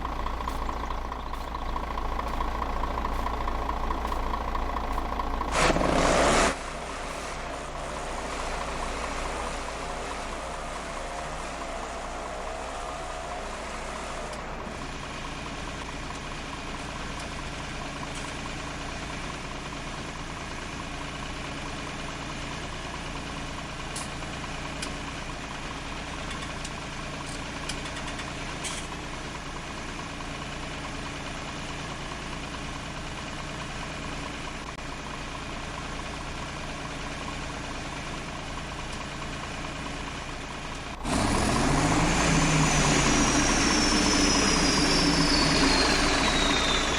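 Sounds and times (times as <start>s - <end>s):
old tractor engine idling: 0.0s - 46.9s.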